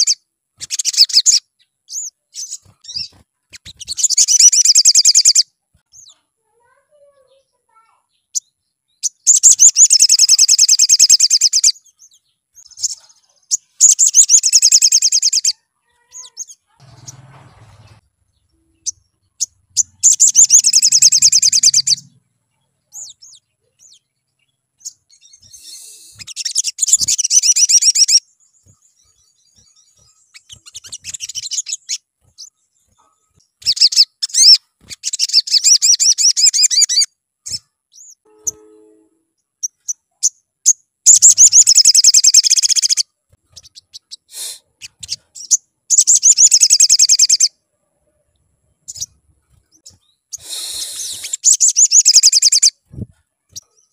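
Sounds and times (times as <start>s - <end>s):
bird high rapid chattering trills: 0.0s - 6.8s, 8.3s - 38.7s, 39.6s - 47.5s, 48.8s - 53.9s
short bird chirps: 0.0s - 6.8s, 7.7s - 47.5s, 48.8s - 53.9s.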